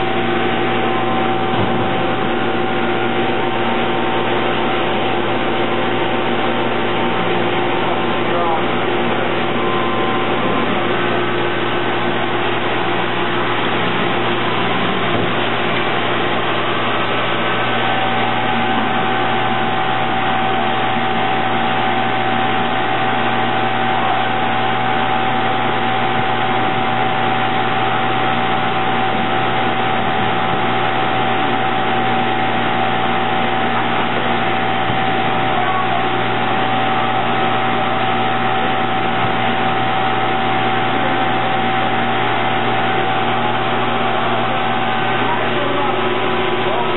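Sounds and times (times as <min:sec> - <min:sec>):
high machine whine: 0:00.0 - 0:46.9
machinery hums and whines: 0:00.0 - 0:46.9.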